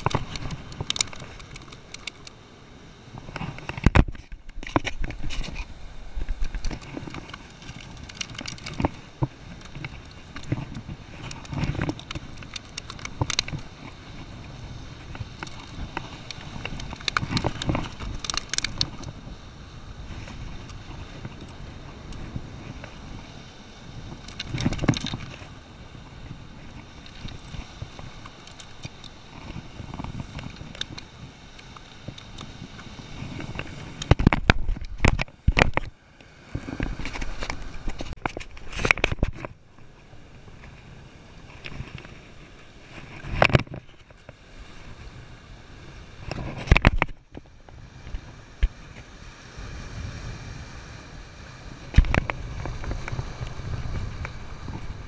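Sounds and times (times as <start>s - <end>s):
surf washing against rocks: 0.0s - 55.0s
wind buffeting microphone: 3.0s - 44.1s, 44.7s - 55.0s.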